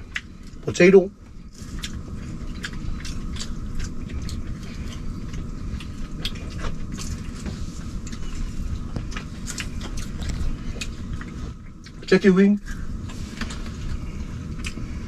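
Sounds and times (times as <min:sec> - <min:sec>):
chewing and food picking clicks: 0:00.0 - 0:00.7, 0:01.6 - 0:14.8
steady low hum: 0:00.0 - 0:15.0.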